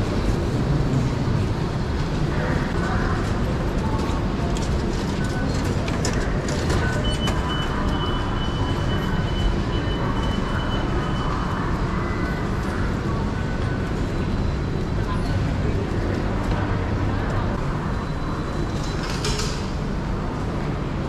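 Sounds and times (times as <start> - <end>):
train rail noise: 0.0 - 21.0.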